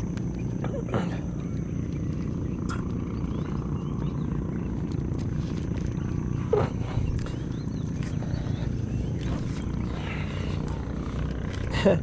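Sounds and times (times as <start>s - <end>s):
wind buffeting microphone: 1.5s - 12.0s.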